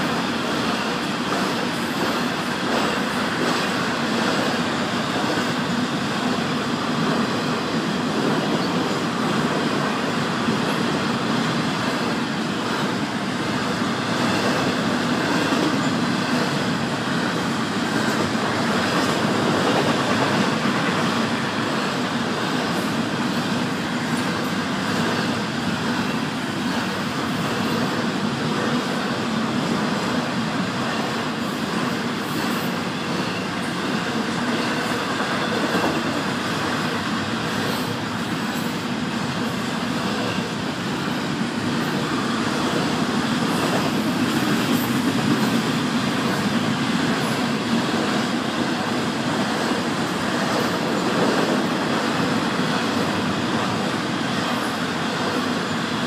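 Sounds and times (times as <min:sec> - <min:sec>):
steel wheels on rail: 0:00.0 - 0:56.0.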